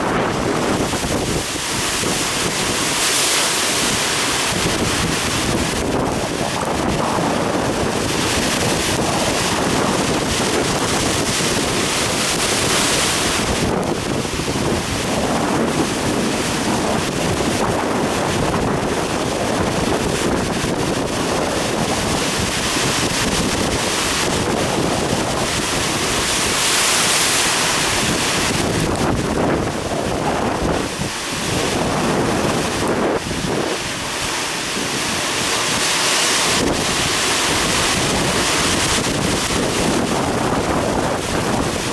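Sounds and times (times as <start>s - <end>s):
waves surging and breaking: 0.0s - 41.9s
wind buffeting microphone: 0.0s - 41.9s.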